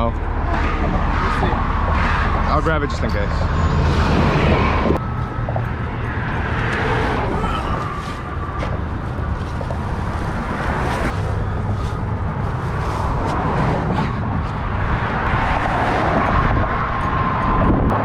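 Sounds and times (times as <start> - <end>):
highway traffic rumble: 0.0 - 18.0.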